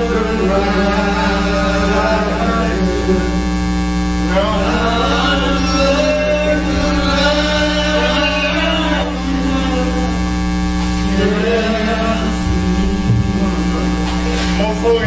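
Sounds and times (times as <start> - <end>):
electrical mains hum: 0.0 - 15.0
faint music with singing voice: 0.0 - 15.0.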